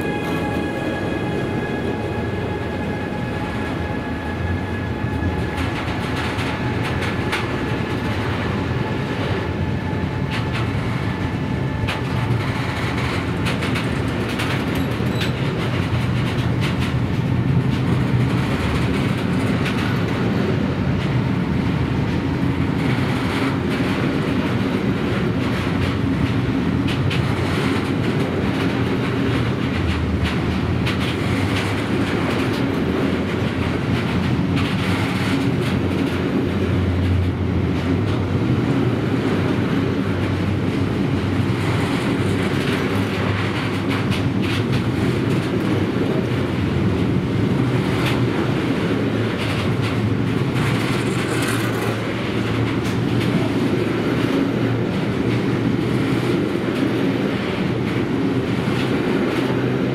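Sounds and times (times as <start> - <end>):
clickety-clack over rail joints: 0.0 - 59.9
freight wagons rumbling on rails: 0.0 - 59.9.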